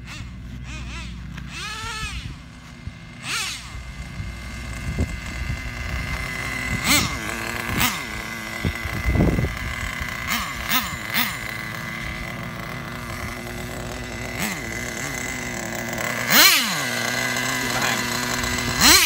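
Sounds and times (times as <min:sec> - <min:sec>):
small nitro engine revving: 0:00.0 - 0:19.0.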